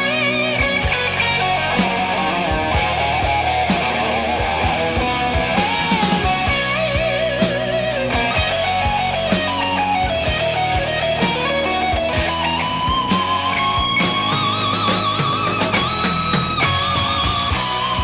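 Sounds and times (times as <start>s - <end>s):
electric guitar solo: 0.0s - 18.0s
rock band backing with drums: 0.0s - 18.0s.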